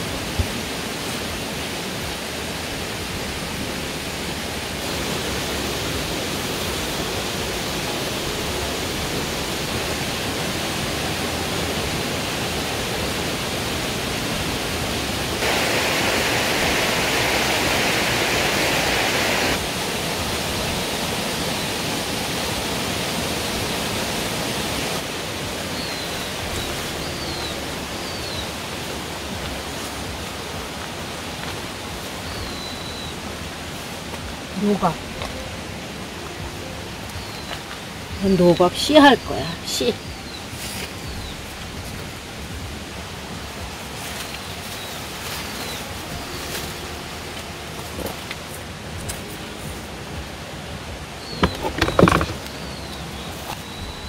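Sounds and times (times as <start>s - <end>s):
steady outdoor rushing noise: 0.0s - 54.0s.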